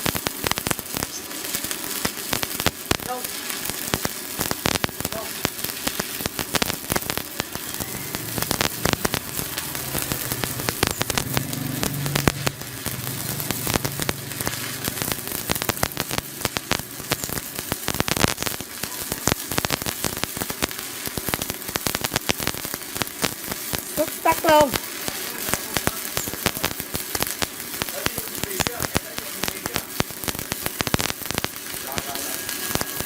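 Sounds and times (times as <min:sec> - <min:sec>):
welding arc crackling and sizzling: 0:00.0 - 0:33.0.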